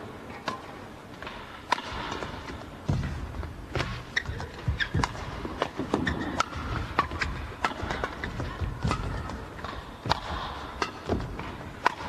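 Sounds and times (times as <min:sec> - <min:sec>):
racket striking shuttlecock: 0:00.5 - 0:12.0.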